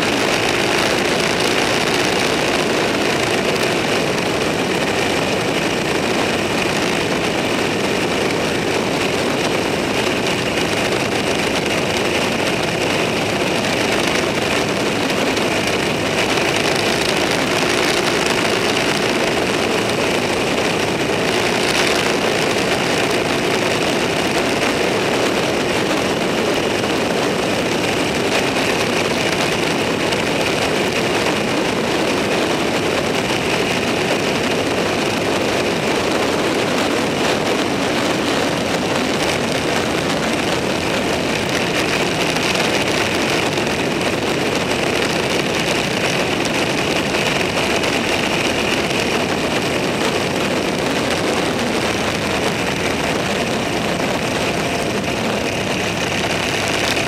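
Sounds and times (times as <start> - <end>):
vehicle cruising roar: 0.0 - 57.0.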